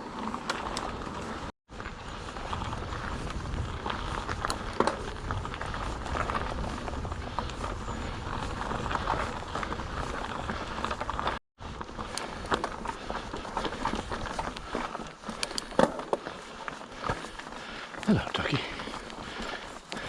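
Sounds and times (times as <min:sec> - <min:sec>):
bike tyres on rough track: 0:00.0 - 0:20.0.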